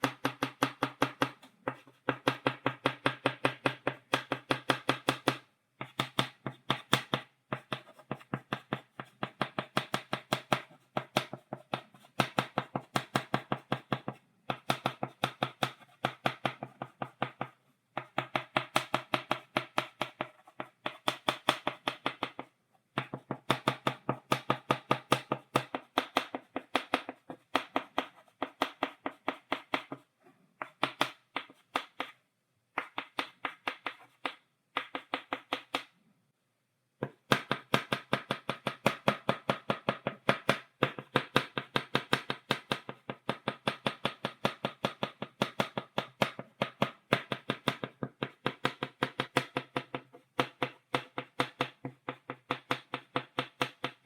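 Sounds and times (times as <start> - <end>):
chalk tapping on blackboard: 0.0 - 35.9, 37.0 - 54.0.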